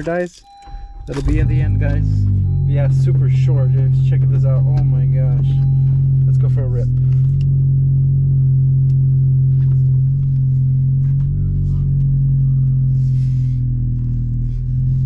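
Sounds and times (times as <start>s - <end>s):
car engine hum from cabin: 0.0s - 15.0s.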